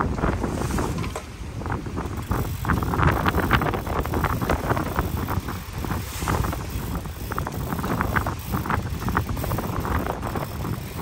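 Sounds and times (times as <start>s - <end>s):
wind buffeting microphone: 0.0s - 11.0s
boat engine running: 0.9s - 11.0s.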